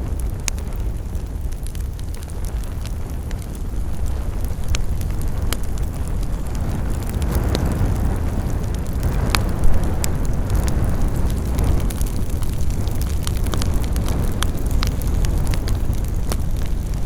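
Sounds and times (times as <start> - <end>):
campfire crackling and popping: 0.0 - 17.0
campfire low rush: 0.0 - 17.0.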